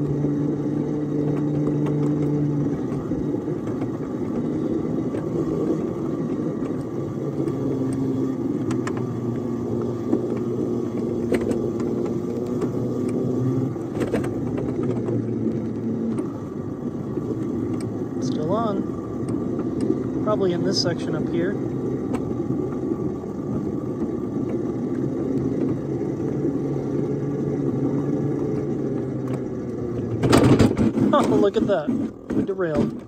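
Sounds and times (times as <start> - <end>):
miniature locomotive drive hum: 0.0 - 33.0.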